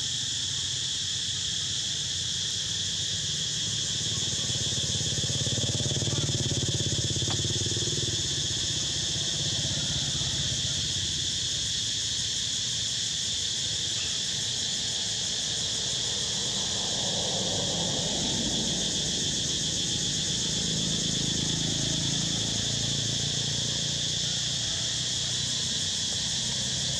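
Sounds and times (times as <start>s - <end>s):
high insect chorus buzzing: 0.0s - 26.9s.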